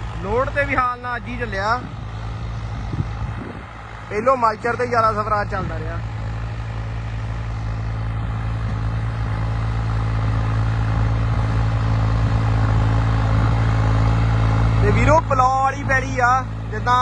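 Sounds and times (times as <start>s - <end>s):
tractor diesel engine droning: 0.0s - 17.0s.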